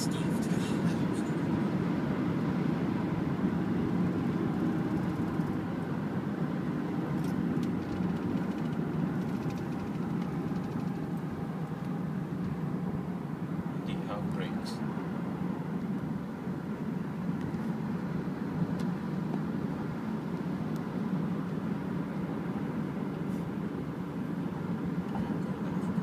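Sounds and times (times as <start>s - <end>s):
car engine drone in cabin: 0.0s - 26.0s.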